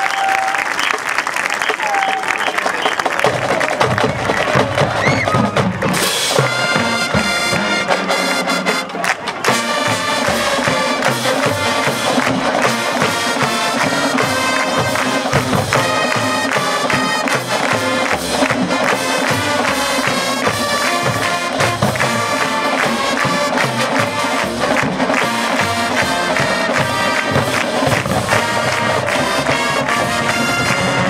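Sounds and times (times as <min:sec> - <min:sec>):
marching band playing chords: 0:02.6 - 0:31.0.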